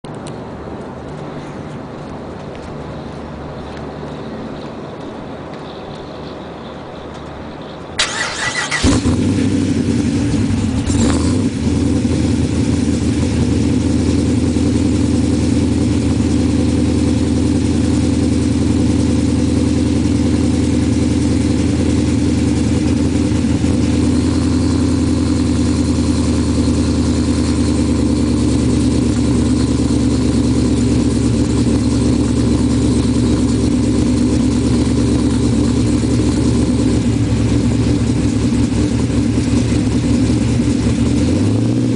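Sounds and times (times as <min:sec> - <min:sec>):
car engine starting and idling: 0:07.2 - 0:41.9.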